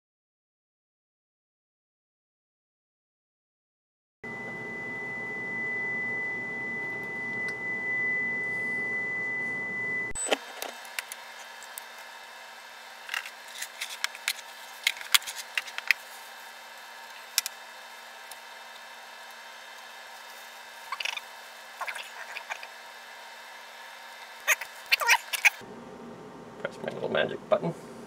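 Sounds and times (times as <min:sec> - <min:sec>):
faint steady hum: 0:04.3 - 0:28.0.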